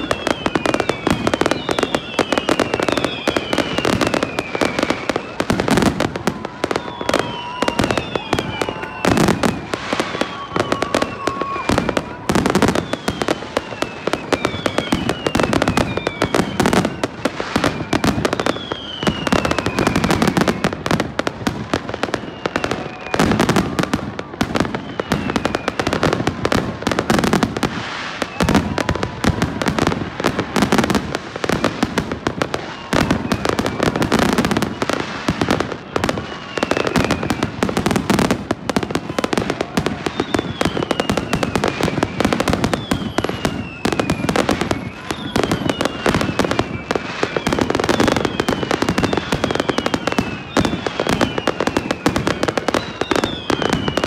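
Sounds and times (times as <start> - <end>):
firework bangs: 0.0 - 54.0
firework whistle sliding down: 0.0 - 54.0
fireworks crackling and popping: 0.0 - 54.0.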